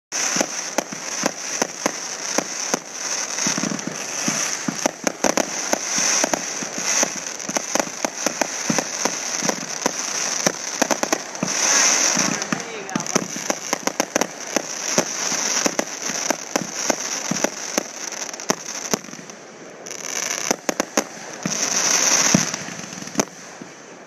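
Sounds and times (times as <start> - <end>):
firework shots popping: 0.1 - 19.3, 19.9 - 23.8
crackling fizz of fireworks: 0.1 - 24.0.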